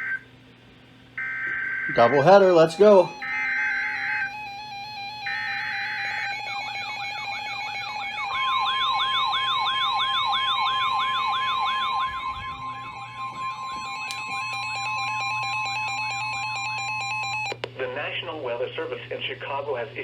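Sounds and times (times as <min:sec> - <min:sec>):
buzzing digital header bursts: 0:01.2 - 0:17.5
steady single-pitch alert tone: 0:01.2 - 0:17.6
warbling siren-like alert tone: 0:01.2 - 0:17.6.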